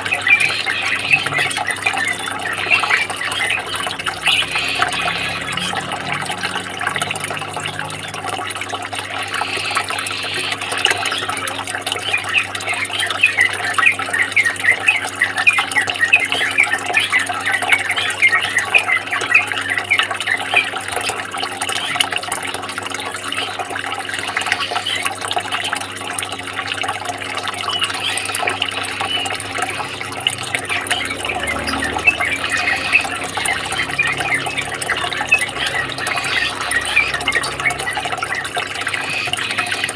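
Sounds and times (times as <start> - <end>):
running water trickling and splashing: 0.0 - 39.9.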